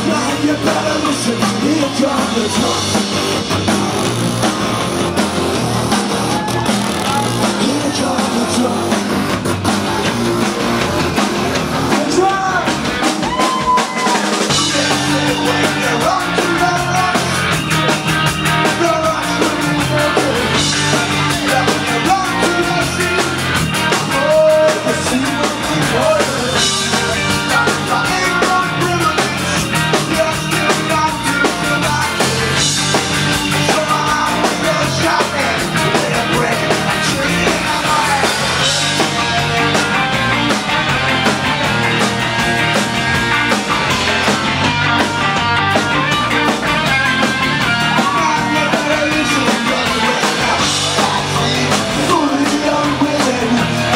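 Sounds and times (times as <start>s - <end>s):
punk rock band playing live: 0.0s - 53.9s.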